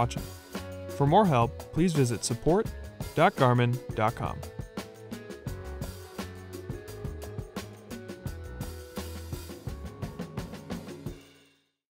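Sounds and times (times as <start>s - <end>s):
background music with drum beat: 0.0s - 11.5s.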